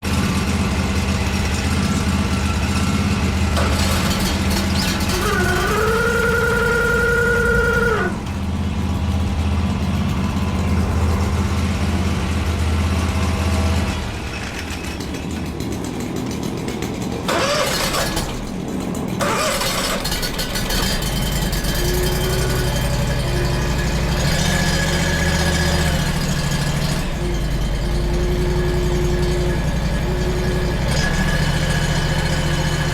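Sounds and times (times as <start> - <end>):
engine humming: 0.0 - 32.9.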